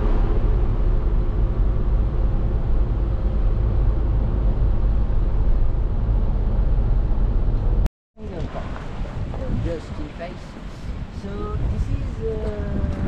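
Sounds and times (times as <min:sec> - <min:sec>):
bus engine and road rumble: 0:00.0 - 0:08.4, 0:09.0 - 0:13.0.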